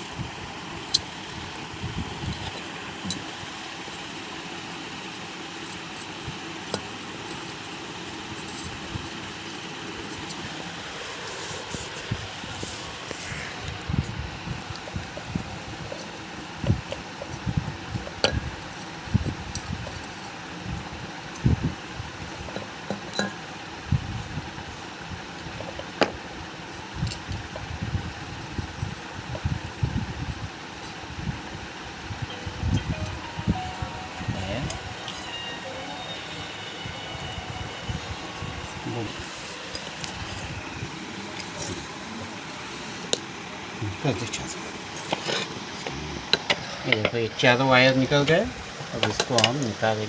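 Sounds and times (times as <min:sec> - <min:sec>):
steady hiss: 0:00.0 - 0:27.2, 0:27.8 - 0:50.0
steady fan noise: 0:00.0 - 0:50.0.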